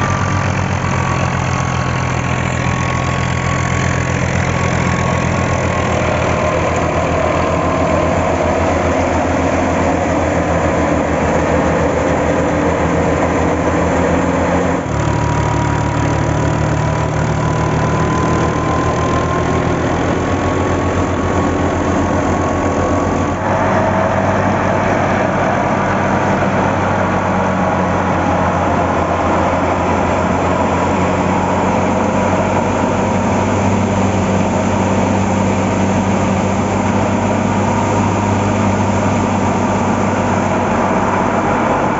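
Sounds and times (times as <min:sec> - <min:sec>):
thresher whine: 0:00.0 - 0:41.9
tractor diesel engine running: 0:00.0 - 0:41.9.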